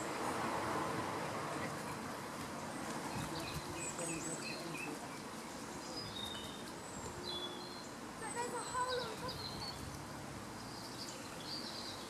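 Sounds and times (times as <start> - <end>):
steady outdoor noise: 0.0 - 12.0
small birds chirping: 1.2 - 12.0.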